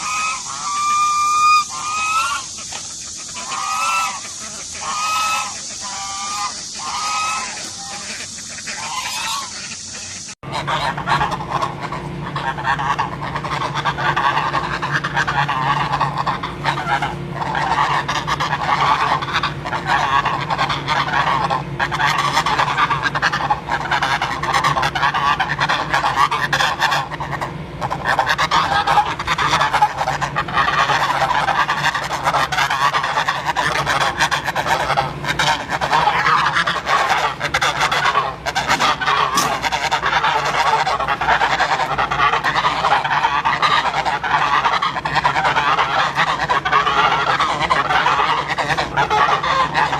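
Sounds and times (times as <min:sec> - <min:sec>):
geese honking: 0:00.0 - 0:49.9.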